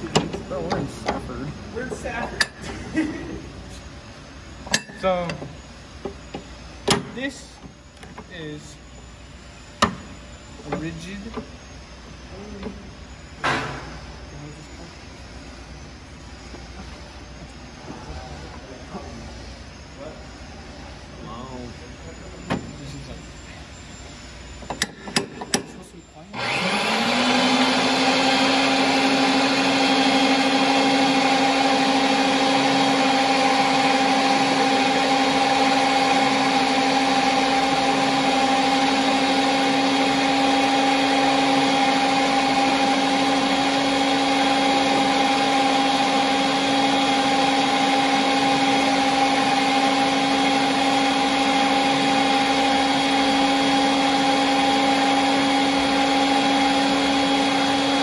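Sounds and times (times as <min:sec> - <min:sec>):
pipe threading machine whine: 0:00.0 - 0:58.0.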